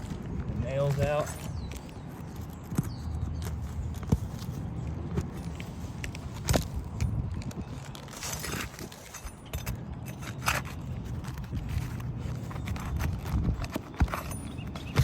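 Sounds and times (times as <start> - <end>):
shingle being pried and scraped: 0.0 - 15.0.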